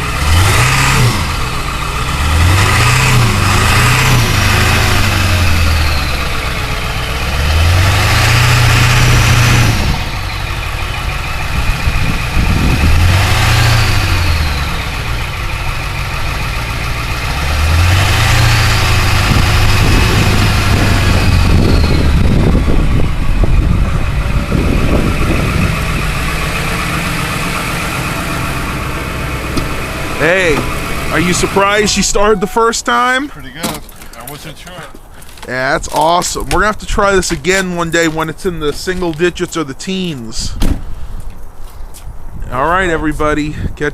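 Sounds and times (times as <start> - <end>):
diesel engine idling and revving: 0.0 - 43.9.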